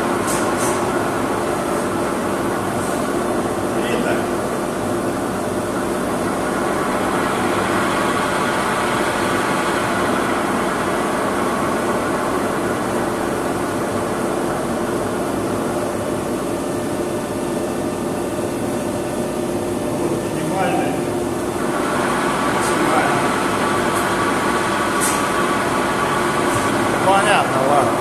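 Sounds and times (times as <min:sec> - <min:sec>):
grinding machine hum: 0:00.8 - 0:28.0.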